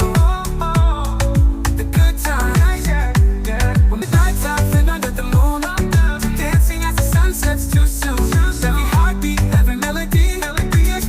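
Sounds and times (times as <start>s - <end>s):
upbeat music with bass drum: 0.0s - 11.0s.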